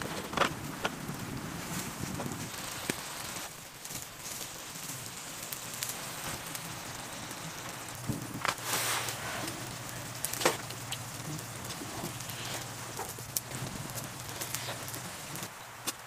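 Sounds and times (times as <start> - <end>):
rustling: 0.0 - 16.0
wood fire crackling: 0.0 - 16.0.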